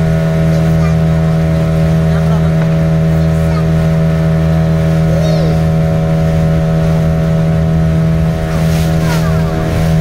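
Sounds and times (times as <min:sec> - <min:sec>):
motorboat engine hum: 0:00.0 - 0:10.0.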